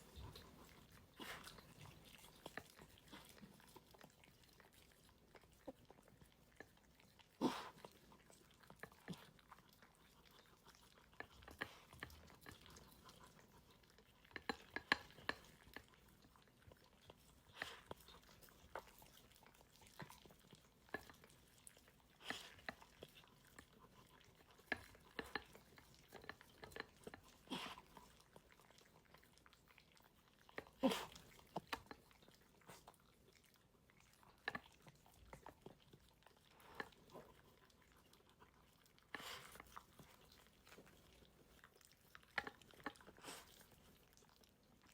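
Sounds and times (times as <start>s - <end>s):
dog chewing kibble: 0.0s - 44.9s.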